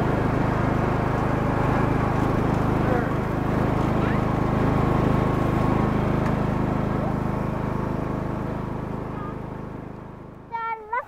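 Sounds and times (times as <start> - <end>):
riding lawn mower engine: 0.0 - 11.0.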